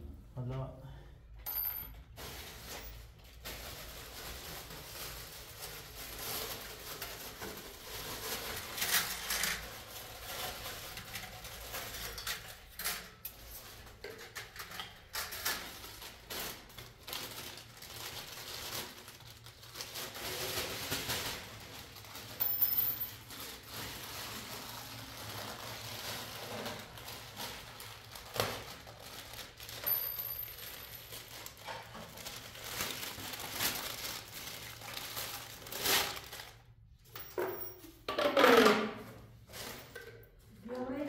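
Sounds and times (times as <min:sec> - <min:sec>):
rustling of handled things: 0:00.2 - 0:41.0.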